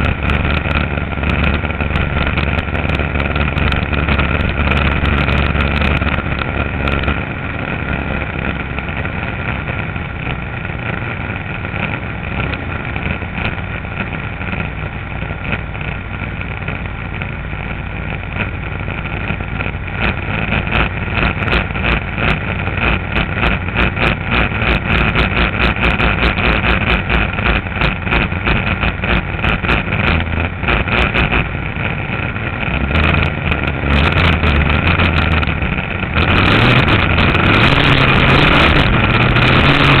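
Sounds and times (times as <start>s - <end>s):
race boat engine running hard: 0.0s - 14.8s, 18.3s - 40.0s
rapid buffeting: 0.0s - 40.0s.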